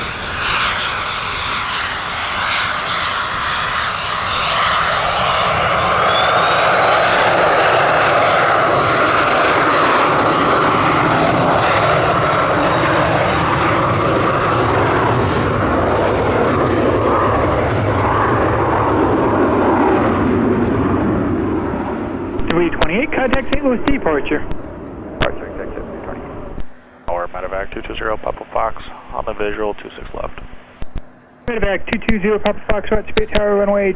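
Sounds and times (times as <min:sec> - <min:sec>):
jet engine roar with whine: 0:00.0 - 0:33.9.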